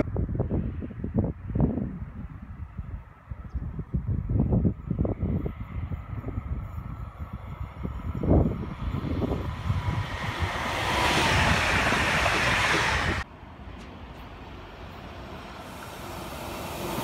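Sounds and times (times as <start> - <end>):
wind buffeting microphone: 0.0 - 14.2
electric train passing at speed: 0.0 - 17.0.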